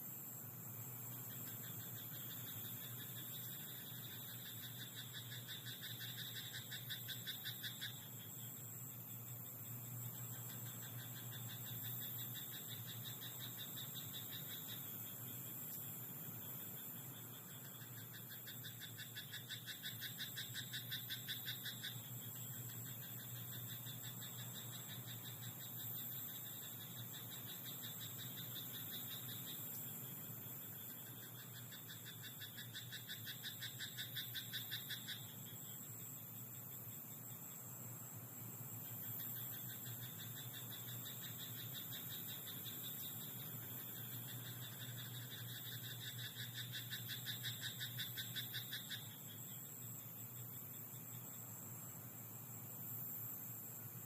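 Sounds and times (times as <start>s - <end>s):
frogs croaking: 0.0s - 54.0s
high insect trill: 0.0s - 54.0s.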